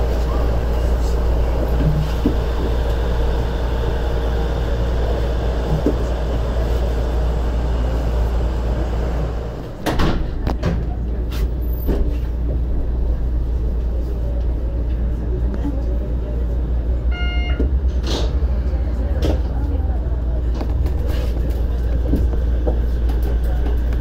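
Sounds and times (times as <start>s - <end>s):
train car equipment hum: 0.0s - 24.0s.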